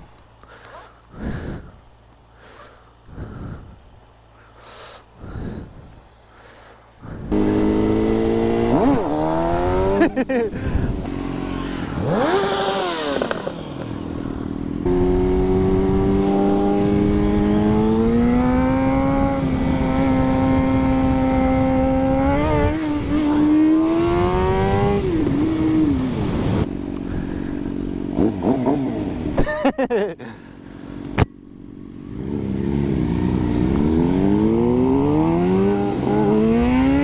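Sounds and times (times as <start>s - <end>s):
motorcycle engine revving: 7.0s - 37.0s.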